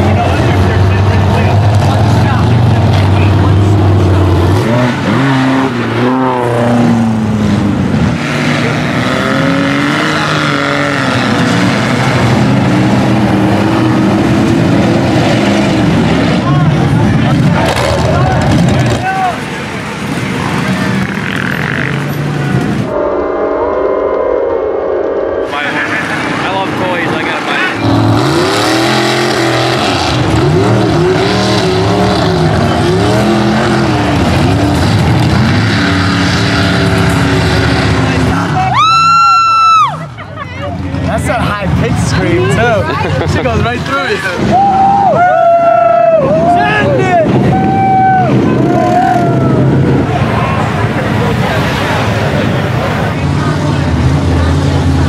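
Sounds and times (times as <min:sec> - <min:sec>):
truck engines revving hard: 0:00.0 - 0:23.3, 0:25.2 - 0:55.0.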